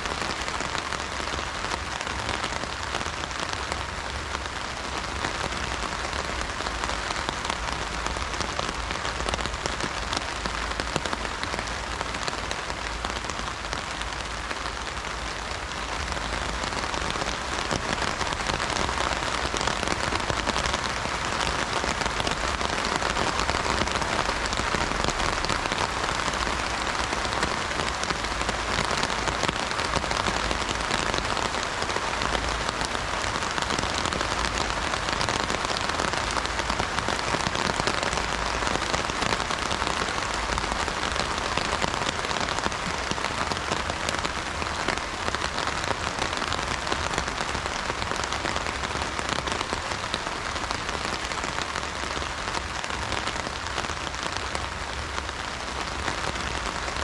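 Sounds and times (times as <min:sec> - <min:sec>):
heavy rain on an umbrella: 0:00.0 - 0:57.0.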